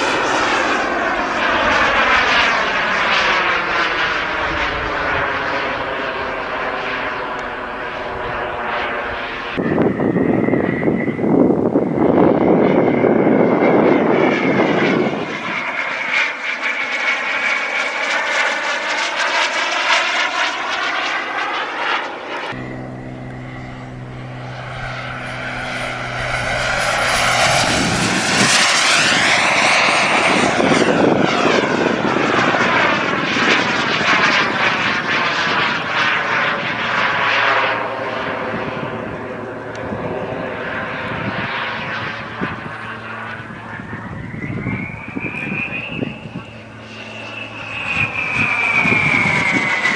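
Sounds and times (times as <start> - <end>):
model jet flying by: 0.0 - 49.9.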